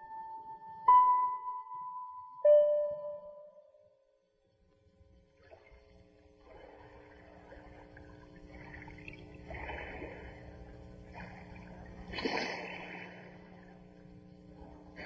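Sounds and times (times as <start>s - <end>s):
low steady drone: 0.0s - 15.0s.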